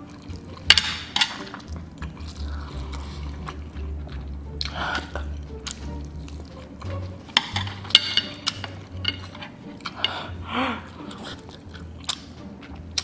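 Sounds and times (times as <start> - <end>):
slurping noodles: 0.0 - 7.8, 8.4 - 13.0
wet chewing clicks and smacks: 0.0 - 10.2, 11.0 - 13.0.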